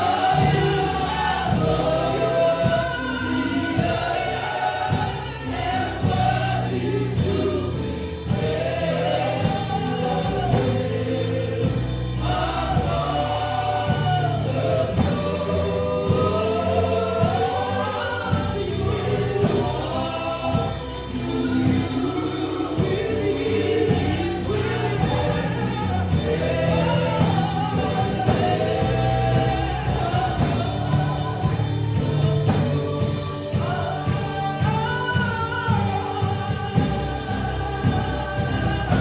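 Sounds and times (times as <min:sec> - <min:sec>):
group singing gospel song: 0:00.0 - 0:39.0
instrumental accompaniment with beat: 0:00.0 - 0:39.0.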